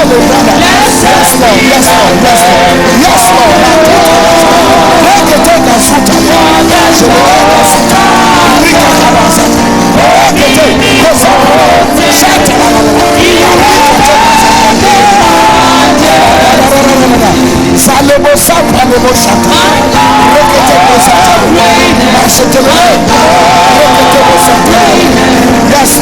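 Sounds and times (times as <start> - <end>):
held chords: 0.0 - 26.0
person singing: 0.0 - 26.0.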